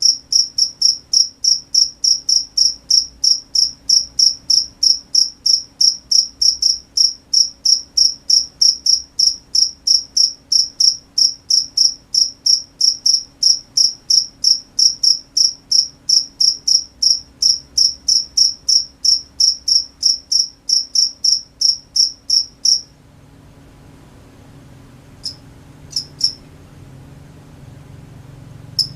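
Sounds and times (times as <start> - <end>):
cricket chirping: 0.0 - 22.9, 25.2 - 26.5.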